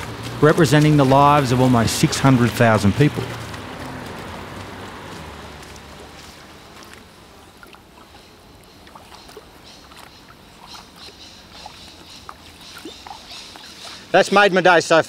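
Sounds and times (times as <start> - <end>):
water drips and splashes: 0.0 - 14.6.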